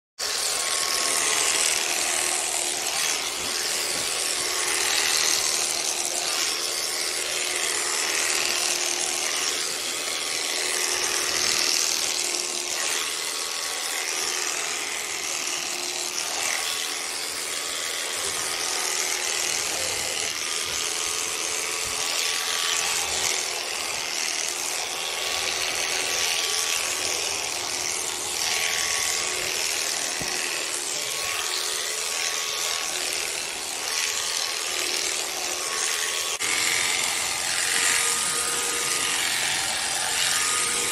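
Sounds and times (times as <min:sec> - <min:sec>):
electric shearing clippers running: 0:00.2 - 0:40.9.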